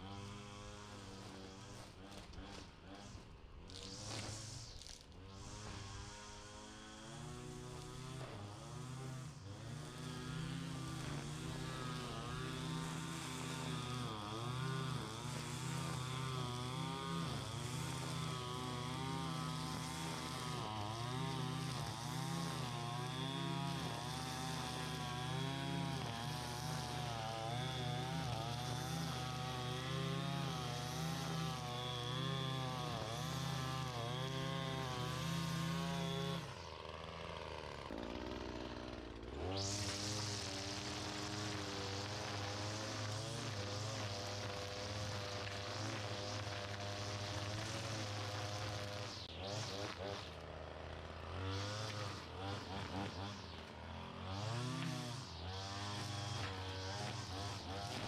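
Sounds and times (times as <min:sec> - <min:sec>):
small gas engine running hard: 0:00.0 - 0:58.0.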